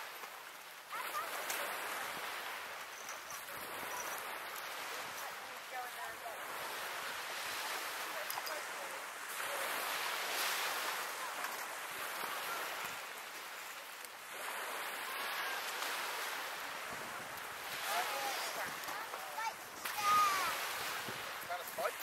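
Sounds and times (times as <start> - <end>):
waves washing onto shingle: 0.0 - 22.0.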